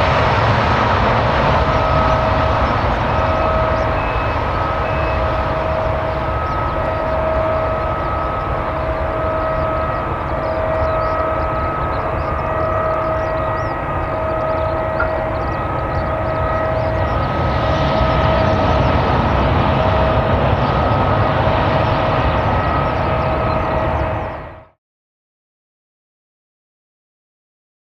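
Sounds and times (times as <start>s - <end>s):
jet engines running: 0.0s - 24.8s.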